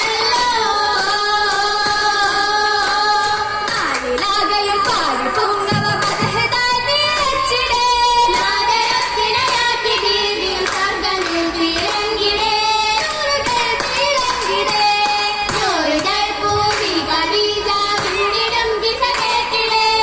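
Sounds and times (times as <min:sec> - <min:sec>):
girls singing together: 0:00.0 - 0:20.0
handclaps keeping the beat: 0:00.0 - 0:20.0.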